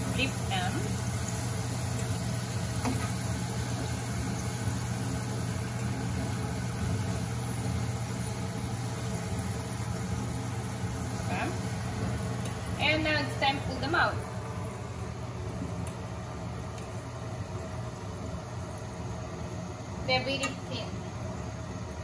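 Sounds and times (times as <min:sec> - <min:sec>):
dough sizzling in hot oil: 0:00.0 - 0:22.0
low steady hum: 0:00.0 - 0:22.0.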